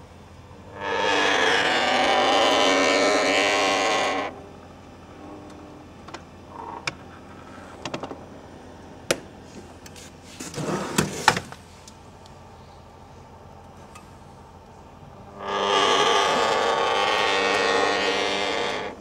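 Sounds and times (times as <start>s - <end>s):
fridge buzzing whir: 0.0s - 11.7s, 14.2s - 19.0s.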